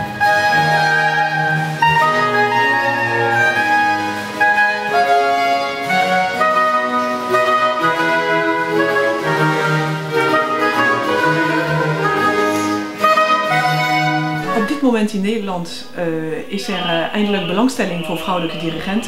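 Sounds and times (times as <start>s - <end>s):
baroque orchestra strings playing: 0.0s - 19.0s.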